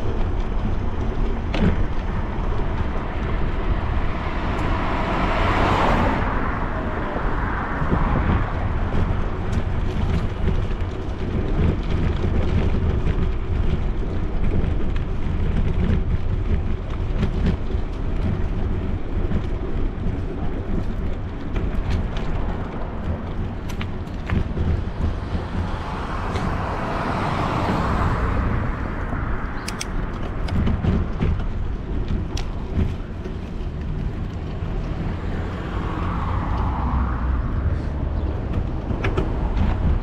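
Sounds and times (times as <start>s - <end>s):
car passing close: 0.0s - 13.0s, 18.9s - 40.0s
wind rumbling on microphone: 0.0s - 40.0s.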